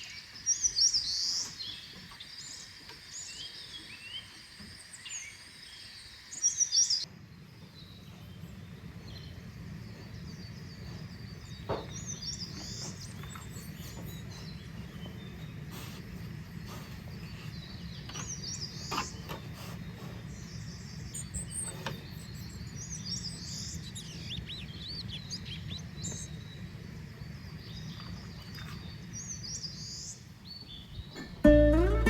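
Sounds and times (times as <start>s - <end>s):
forest birds chirping: 0.0s - 32.0s.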